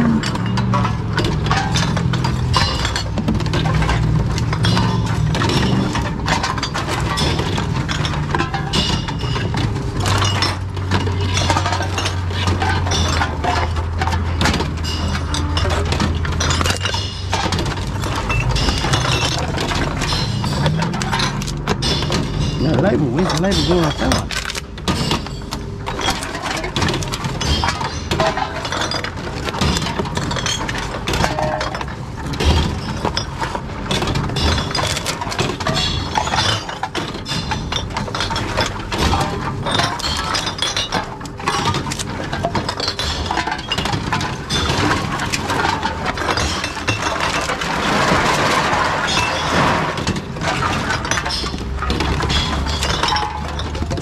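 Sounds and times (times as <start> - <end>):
glass bottles clinking: 0.0 - 54.0
glass shattering: 0.0 - 54.0.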